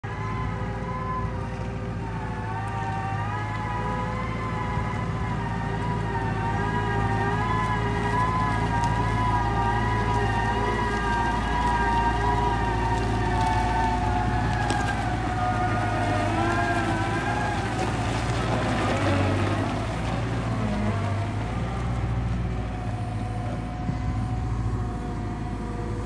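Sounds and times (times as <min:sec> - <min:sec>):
excavator diesel engine whining: 0:00.0 - 0:26.0.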